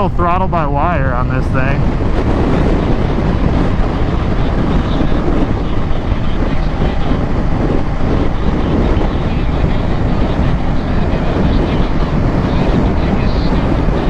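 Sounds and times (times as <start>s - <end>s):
wind on microphone: 0.0s - 14.0s
motorcycle engine at speed: 1.8s - 14.0s.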